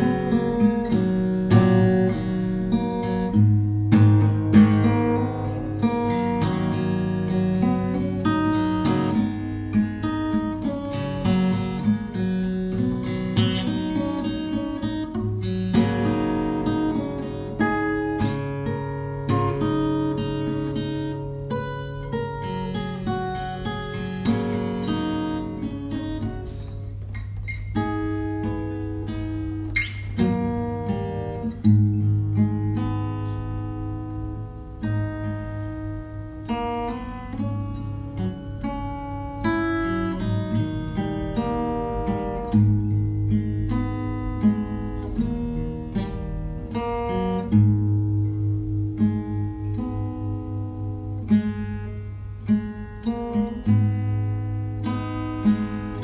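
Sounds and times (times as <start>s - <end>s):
plucked acoustic guitar: 0.0s - 56.0s.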